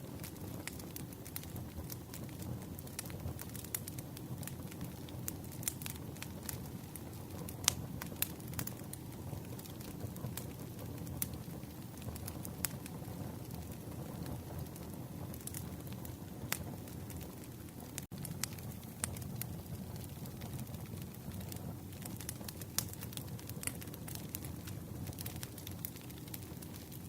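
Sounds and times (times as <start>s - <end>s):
campfire burning and crackling: 0.0s - 27.0s.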